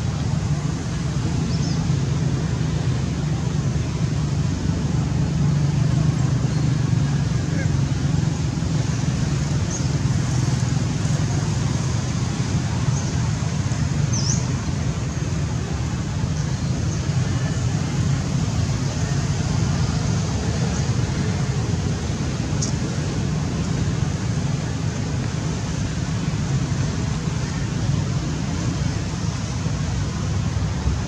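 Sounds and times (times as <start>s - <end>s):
outdoor background rumble: 0.0s - 31.0s.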